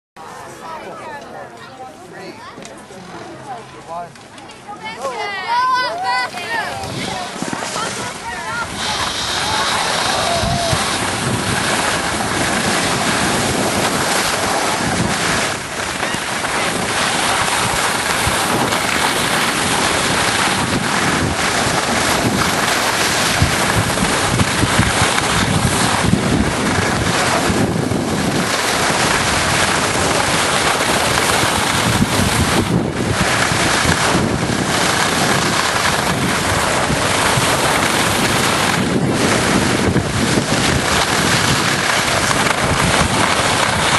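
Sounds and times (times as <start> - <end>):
wind buffeting microphone: 4.8 - 43.9.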